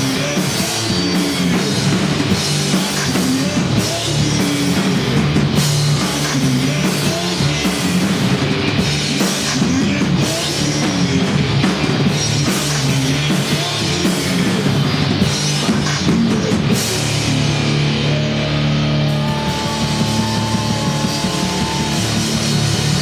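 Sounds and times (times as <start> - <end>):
drum kit and cymbal hits: 0.0 - 23.0
electric guitars and bass: 0.0 - 23.0.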